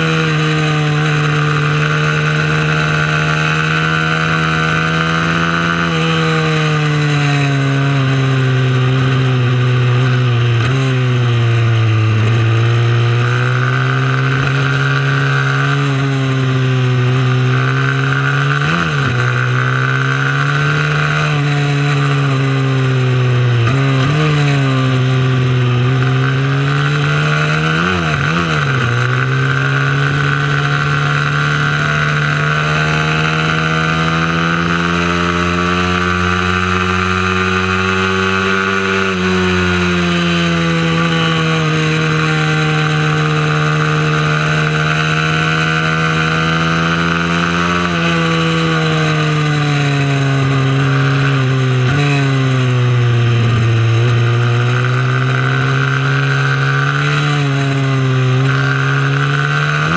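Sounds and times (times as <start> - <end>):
motorcycle engine running hard: 0.0 - 59.9.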